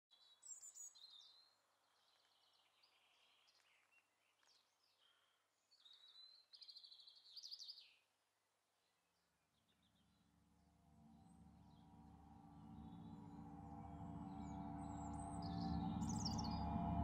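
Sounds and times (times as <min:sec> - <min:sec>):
songbird singing: 0:00.1 - 0:08.1, 0:08.8 - 0:17.0.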